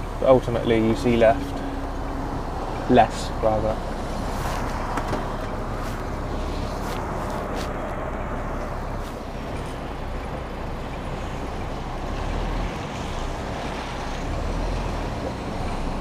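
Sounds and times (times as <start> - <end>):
truck diesel engine rumbling: 0.0 - 16.0.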